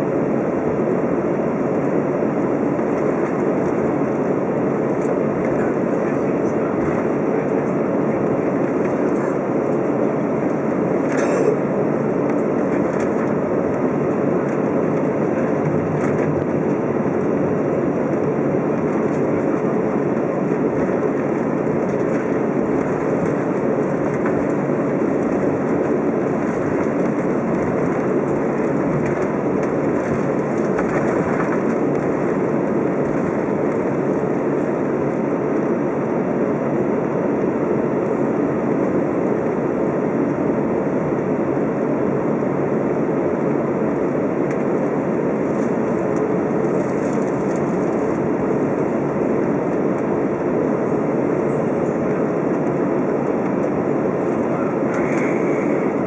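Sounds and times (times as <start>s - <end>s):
jet engines idling: 0.0s - 56.0s
wheels rumbling on taxiway: 0.0s - 56.0s.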